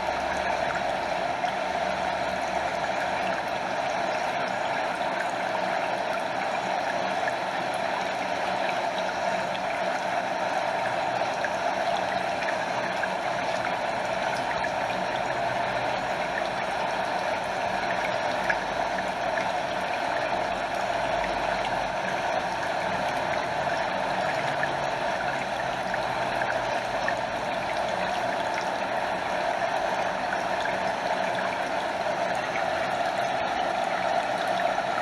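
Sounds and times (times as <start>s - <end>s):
stream water over waterfall: 0.0s - 35.0s.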